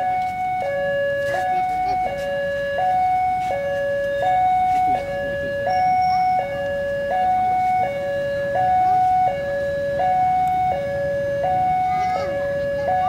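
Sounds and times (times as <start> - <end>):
level crossing alarm two tones: 0.0 - 13.0.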